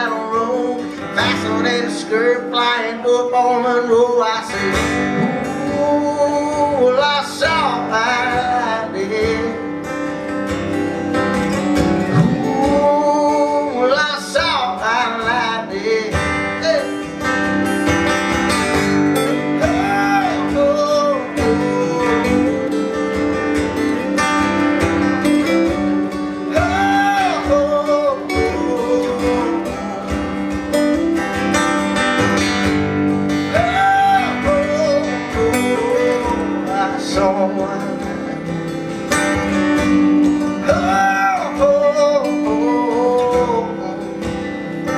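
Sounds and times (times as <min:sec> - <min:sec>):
man singing: 0:00.0 - 0:10.4, 0:11.5 - 0:17.9, 0:18.6 - 0:24.6, 0:25.2 - 0:44.9
strummed acoustic guitar: 0:00.0 - 0:44.9.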